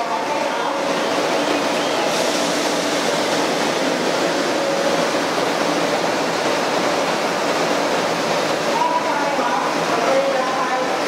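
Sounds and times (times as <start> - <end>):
steady rushing noise of train: 0.0 - 11.0.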